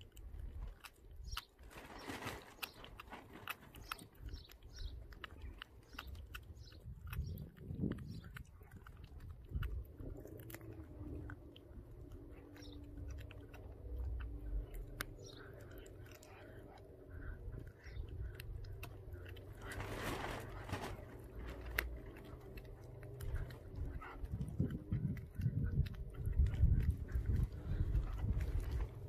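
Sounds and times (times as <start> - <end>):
dog chewing and crunching: 0.0 - 29.0.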